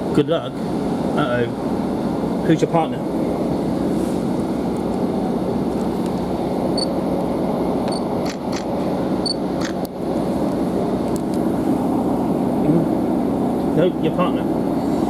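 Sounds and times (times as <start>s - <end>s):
train engine and wheels rumbling: 0.0s - 15.0s.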